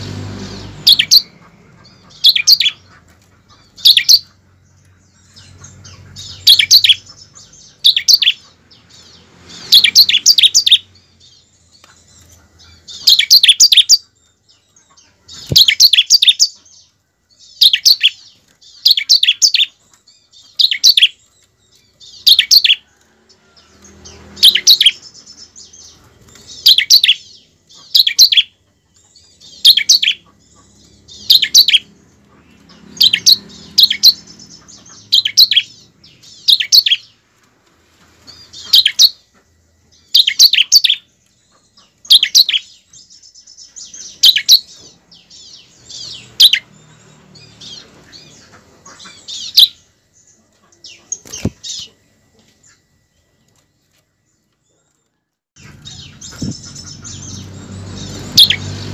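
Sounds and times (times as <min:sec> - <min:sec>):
bird chattering call: 0:00.4 - 0:11.4, 0:12.0 - 0:14.1, 0:14.8 - 0:21.3, 0:22.0 - 0:22.9, 0:24.1 - 0:37.2, 0:38.3 - 0:39.4, 0:40.0 - 0:42.9, 0:43.6 - 0:49.9, 0:55.6 - 0:58.9.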